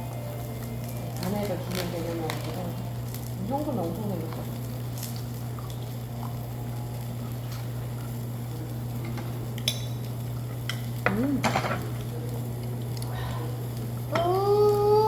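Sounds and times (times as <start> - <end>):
meat sizzling on a grill: 0.0 - 15.0
steady low hum: 0.0 - 15.0.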